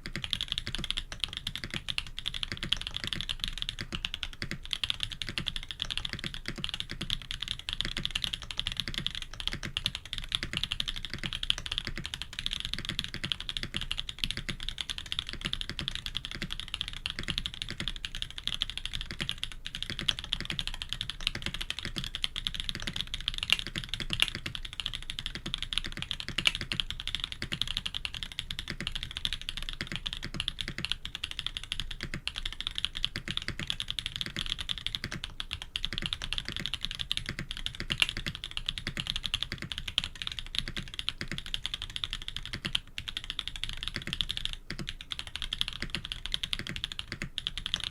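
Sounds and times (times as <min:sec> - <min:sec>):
fast typing on mechanical keyboard: 0:00.0 - 0:47.9.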